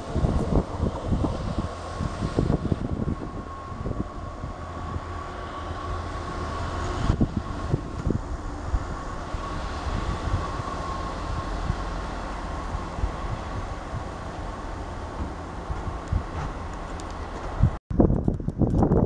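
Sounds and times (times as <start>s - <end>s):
diesel engines rumbling: 0.0s - 17.8s.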